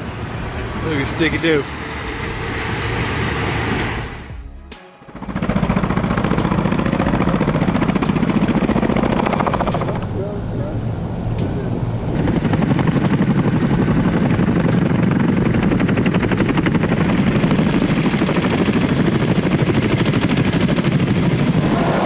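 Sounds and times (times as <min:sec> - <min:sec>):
helicopter rotor blades beating: 0:00.0 - 0:22.0.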